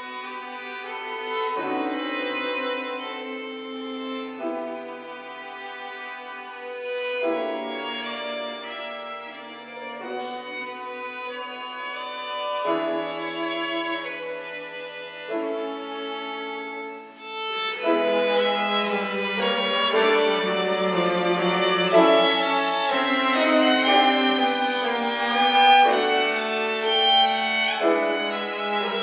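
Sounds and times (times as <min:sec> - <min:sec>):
cello: 0:00.0 - 0:29.0
piano: 0:00.0 - 0:29.0
violin long held notes: 0:00.0 - 0:29.0.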